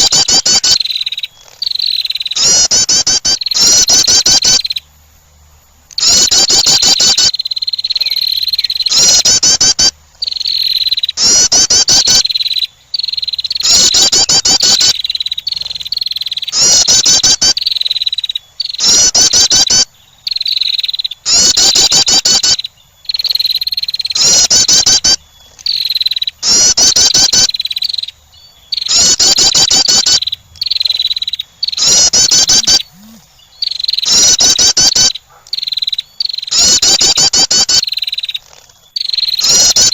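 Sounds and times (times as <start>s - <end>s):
wren chattering trills: 0.0s - 4.9s, 5.9s - 39.9s.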